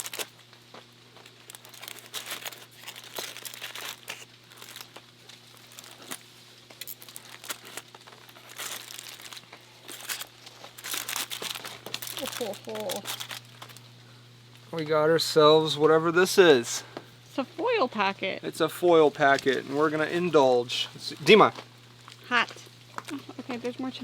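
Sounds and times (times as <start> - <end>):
foil packet crinkling: 0.0 - 14.6, 19.0 - 23.7.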